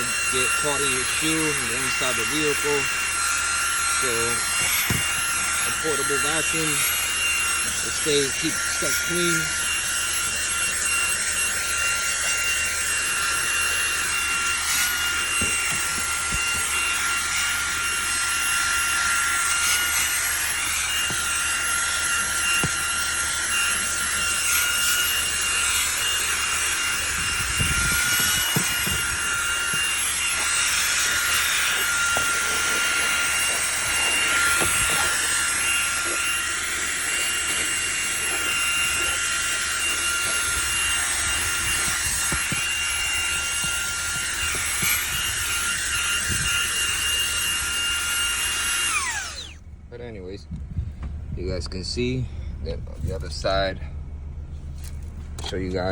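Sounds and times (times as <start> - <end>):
handheld vacuum running: 0.0 - 51.6.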